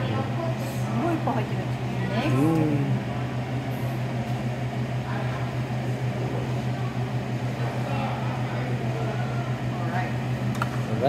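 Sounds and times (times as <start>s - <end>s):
kitchen appliance motor humming: 0.0s - 11.0s.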